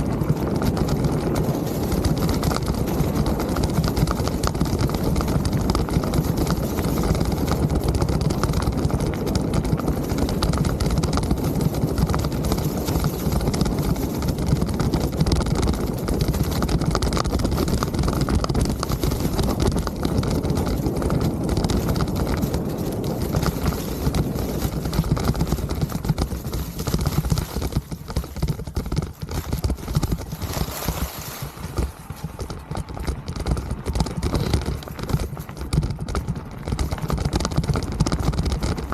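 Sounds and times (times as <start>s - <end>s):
bike rattling and knocking: 0.0s - 38.9s
tyres rumbling on trail: 0.0s - 38.9s.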